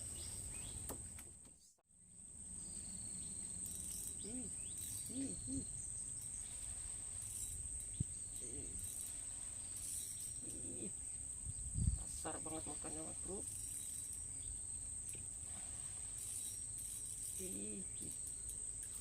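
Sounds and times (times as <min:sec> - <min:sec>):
high-pitched insect drone: 0:02.2 - 0:19.0
low arched calls: 0:02.4 - 0:19.0.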